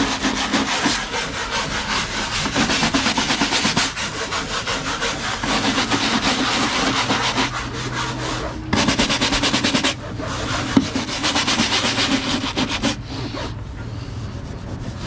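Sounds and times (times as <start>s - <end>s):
scrub brush scratching deck: 0.0s - 13.6s.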